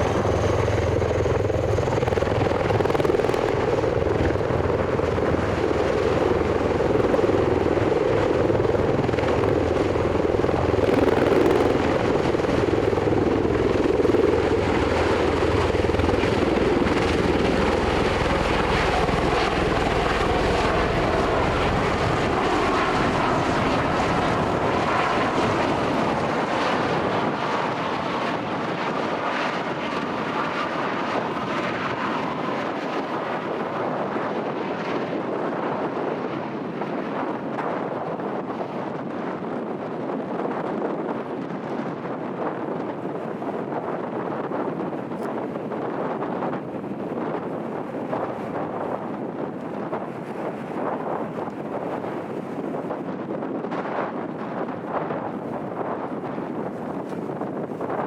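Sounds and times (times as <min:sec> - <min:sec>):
aircraft propeller engines droning: 0:00.0 - 0:58.0.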